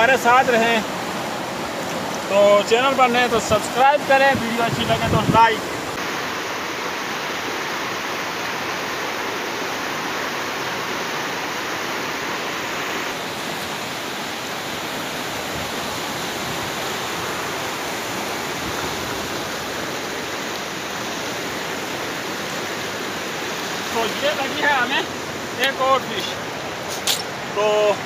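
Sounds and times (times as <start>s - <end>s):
river rushing through rapids: 0.0s - 28.0s.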